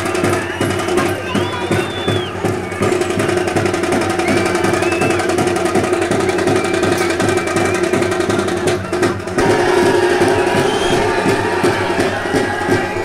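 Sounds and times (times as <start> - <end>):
fast festival drumming: 0.0 - 13.0.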